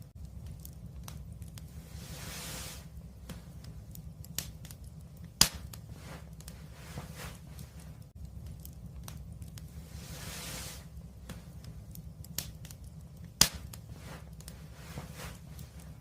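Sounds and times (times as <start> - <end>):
burning gas hissing: 0.0 - 16.0
low steady rumble: 0.0 - 16.0
wood fire crackling: 0.0 - 16.0.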